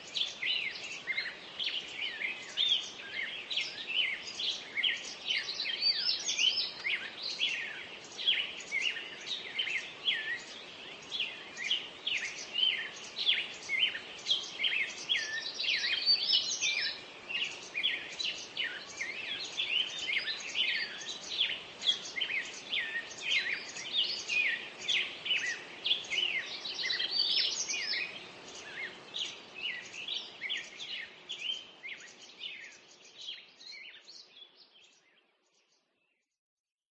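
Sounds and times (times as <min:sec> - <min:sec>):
faint background hiss: 0:00.0 - 0:36.1
songbirds chirping and trilling: 0:00.0 - 0:36.3.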